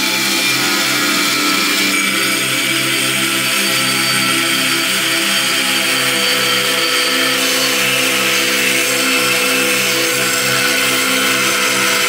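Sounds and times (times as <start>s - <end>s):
angle grinder cutting steel: 0.0s - 12.0s.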